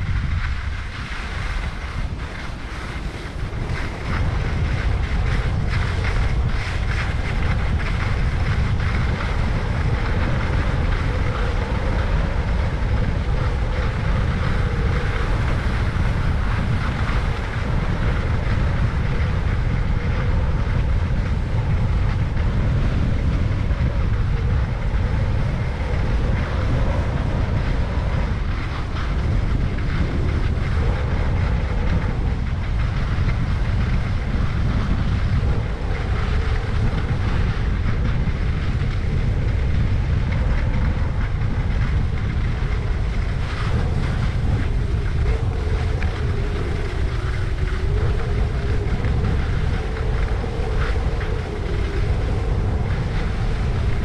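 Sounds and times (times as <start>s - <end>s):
skis scraping over snow: 0.0s - 54.0s
wind buffeting microphone: 0.0s - 54.0s.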